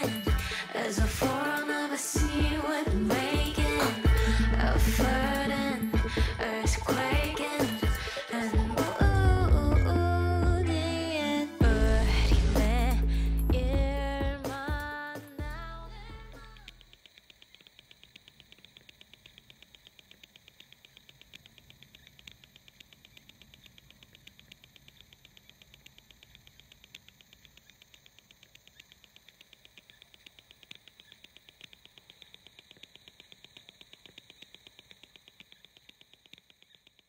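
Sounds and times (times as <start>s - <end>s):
fast even ticking: 0.0s - 10.7s, 11.6s - 37.0s.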